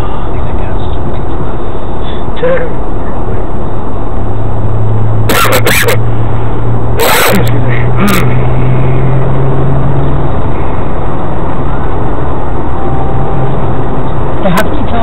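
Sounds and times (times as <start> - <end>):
car engine drone: 0.0 - 15.0
road and tyre noise: 0.0 - 15.0.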